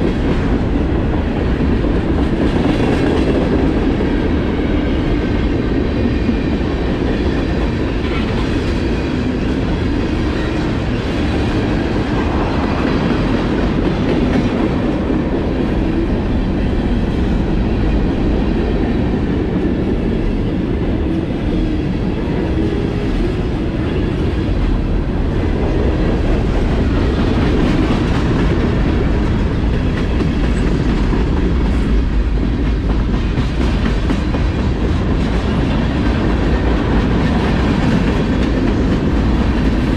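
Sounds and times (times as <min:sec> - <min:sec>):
freight train rumbling by: 0:00.0 - 0:39.9.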